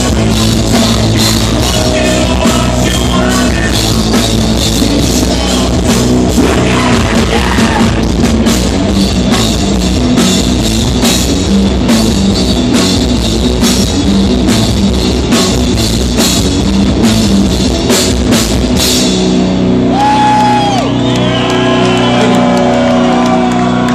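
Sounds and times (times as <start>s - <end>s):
heavy drum kit: 0.0s - 23.9s
live rock band playing: 0.0s - 23.9s.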